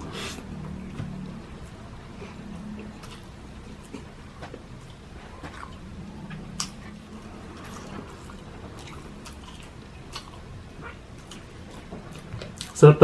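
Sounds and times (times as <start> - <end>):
wet chewing sounds: 0.0 - 12.8.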